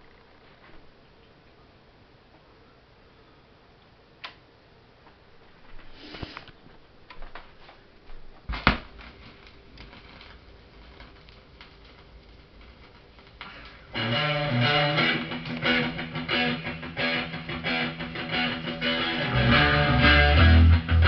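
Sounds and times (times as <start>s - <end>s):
vinyl surface noise: 0.0s - 2.6s, 4.2s - 21.0s.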